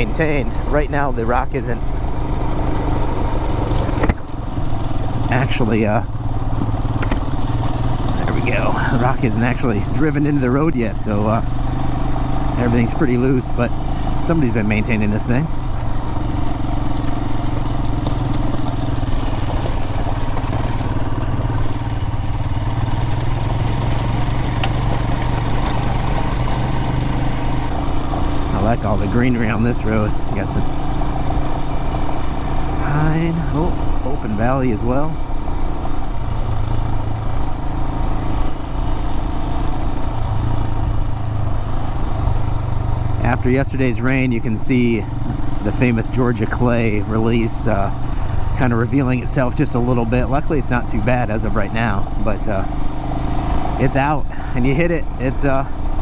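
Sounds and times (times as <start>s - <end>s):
motorcycle engine running: 0.0s - 56.0s
tyres on loose gravel: 0.0s - 56.0s
wind and road noise: 0.0s - 56.0s.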